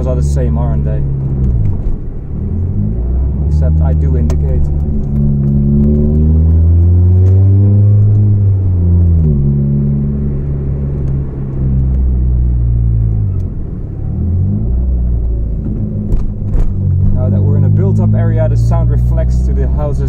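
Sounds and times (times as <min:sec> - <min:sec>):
car engine with leaking exhaust: 0:00.0 - 0:20.0.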